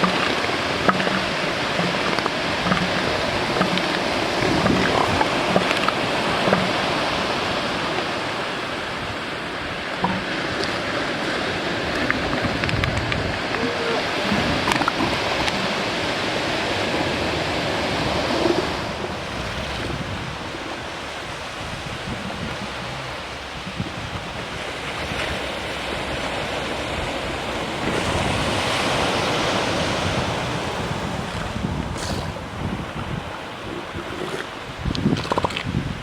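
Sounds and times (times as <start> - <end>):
ocean surf washing onto beach: 0.0 - 36.0.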